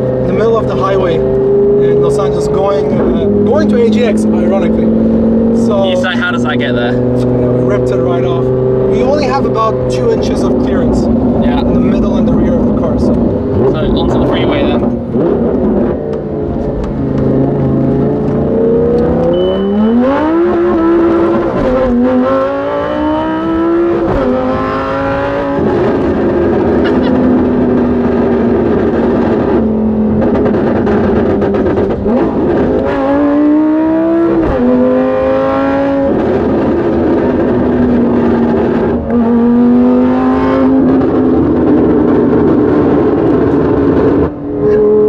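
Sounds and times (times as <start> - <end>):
sports car engine accelerating: 0.0 - 45.0.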